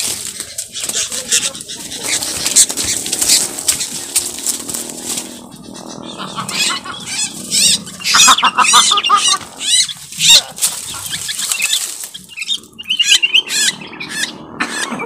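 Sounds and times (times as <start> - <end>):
wing flapping: 0.0 - 13.4
bird squawking calls: 0.0 - 15.0.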